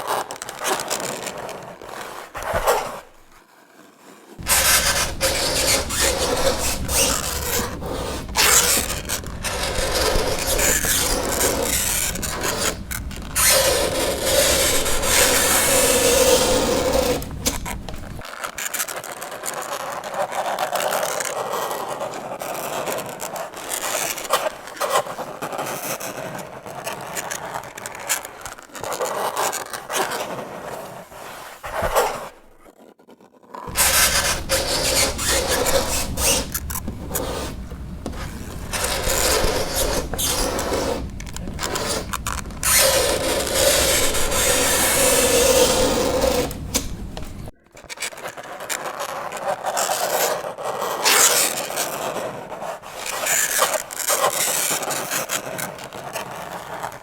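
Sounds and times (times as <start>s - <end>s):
fingernails scraping a chalkboard: 0.1s - 18.2s, 21.4s - 47.6s, 48.2s - 57.0s.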